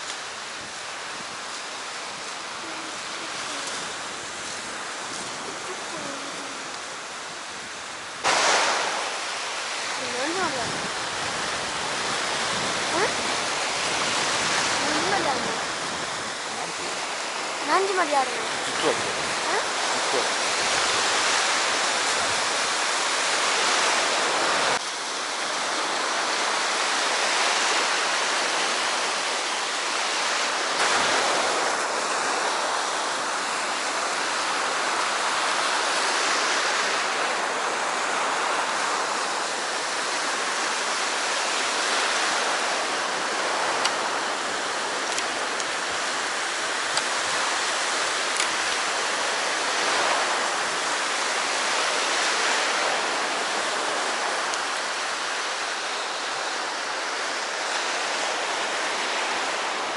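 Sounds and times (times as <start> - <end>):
sea surf washing on shore: 0.0 - 59.9.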